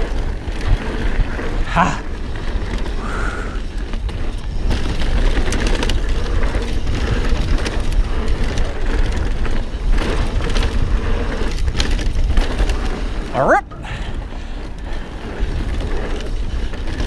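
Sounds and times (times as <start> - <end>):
bike rattles and knocks: 0.0 - 17.0
bike tyre rumble: 0.0 - 17.0
wind rushing over microphone: 0.0 - 17.0.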